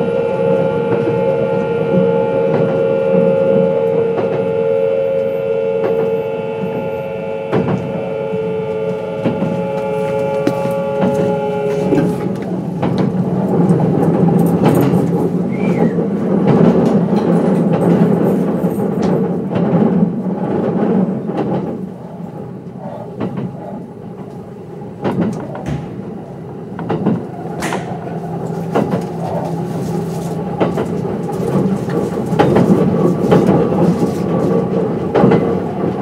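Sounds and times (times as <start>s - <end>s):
train wheels rumbling on rail: 0.0s - 36.0s
rail-joint clicks: 5.2s - 8.0s, 8.7s - 21.9s, 22.6s - 36.0s.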